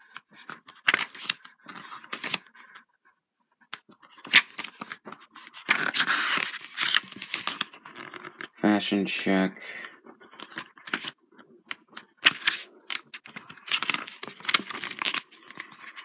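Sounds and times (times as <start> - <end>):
book pages flipping: 0.0 - 8.6, 9.8 - 16.0.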